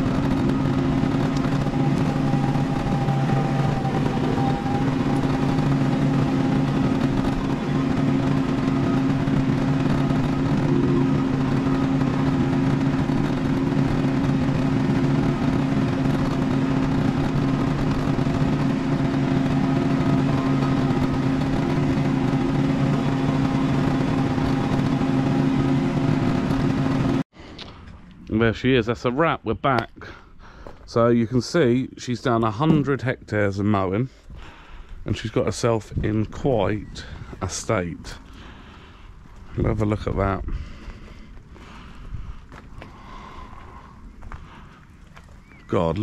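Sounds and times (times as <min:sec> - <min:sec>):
tractor diesel engine droning: 0:00.0 - 0:46.0.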